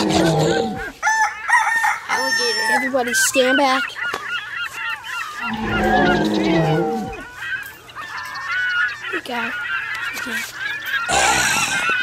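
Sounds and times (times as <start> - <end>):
birds honking calls: 0.0 - 12.0.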